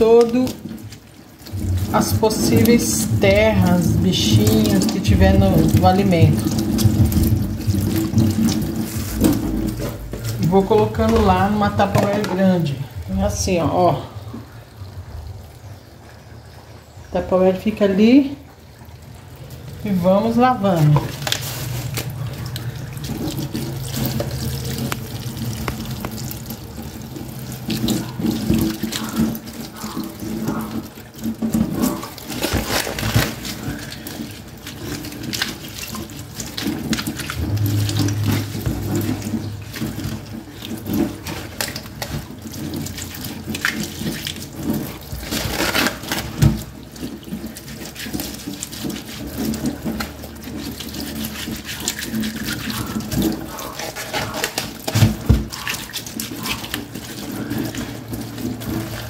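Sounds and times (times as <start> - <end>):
tap water running: 0.0 - 59.0
water splashing: 0.0 - 59.0
wet leaves rustling: 0.0 - 59.0.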